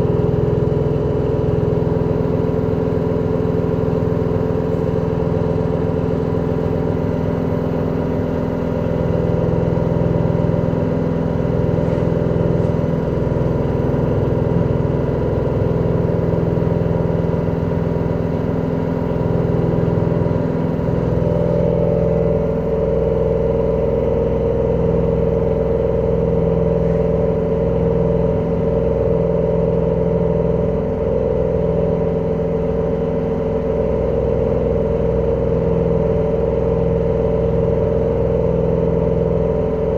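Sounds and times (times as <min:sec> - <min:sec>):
washing machine spinning drone: 0:00.0 - 0:39.9.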